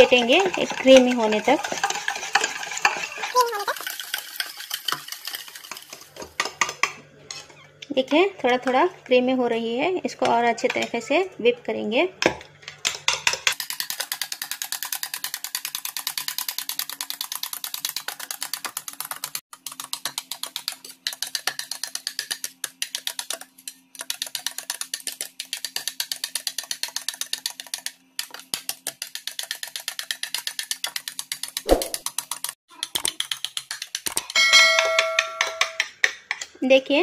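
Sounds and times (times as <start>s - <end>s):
whisk clicking against a bowl: 0.0s - 7.0s, 12.8s - 36.5s.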